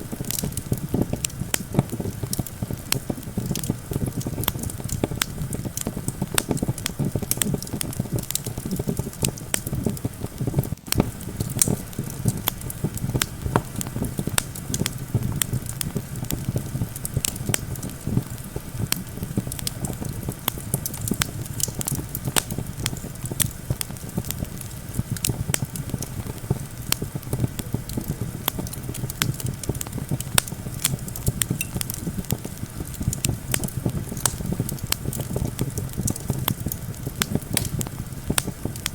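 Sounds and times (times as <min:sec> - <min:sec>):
campfire crackling and popping: 0:00.0 - 0:38.9
low rumble of wind: 0:00.0 - 0:38.9.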